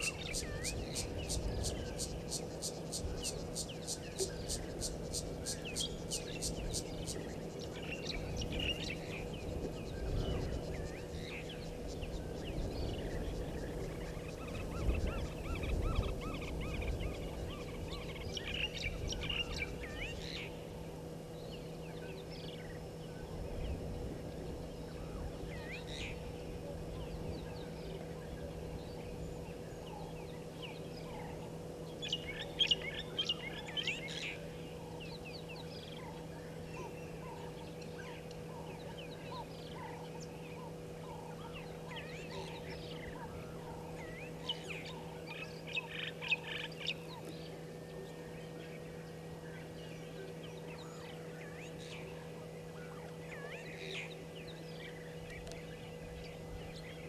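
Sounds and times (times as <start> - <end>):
lower repeated bird notes: 0.0 - 57.0
steady low hum: 0.0 - 57.0.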